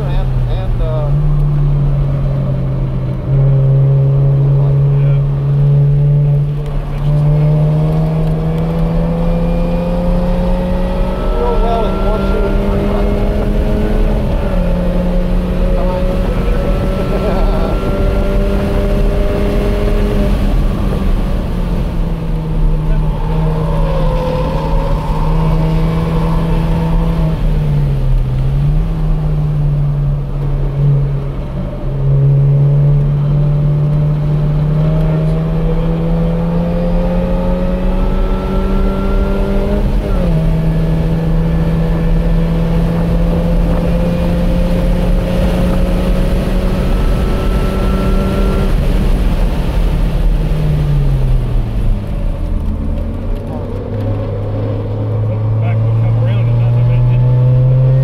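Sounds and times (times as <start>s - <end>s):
car engine revving: 0.0s - 58.0s
wind and road noise: 0.0s - 58.0s.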